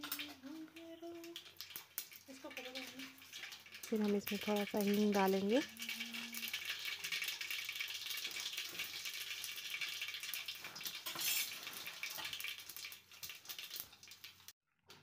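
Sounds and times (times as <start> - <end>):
seeds sizzling in hot oil: 0.0 - 14.6.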